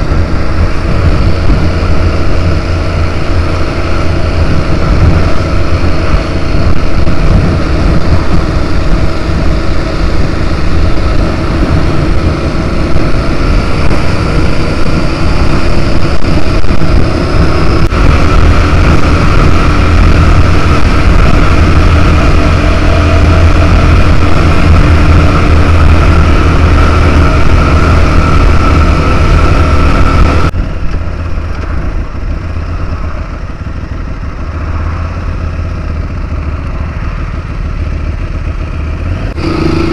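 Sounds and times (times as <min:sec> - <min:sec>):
motorcycle engine rumble: 0:00.0 - 0:39.9
wind and road noise: 0:00.0 - 0:39.9.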